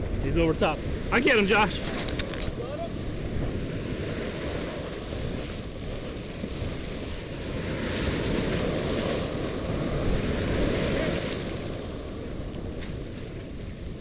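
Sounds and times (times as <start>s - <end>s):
waves breaking and surf washing: 0.0s - 14.0s
wind buffeting microphone: 0.0s - 14.0s.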